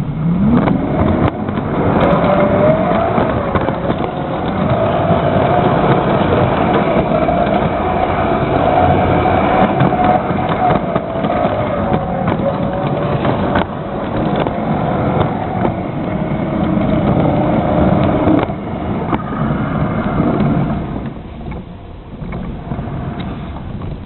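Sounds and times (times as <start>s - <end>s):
wheels clicking on track: 0.0s - 24.0s.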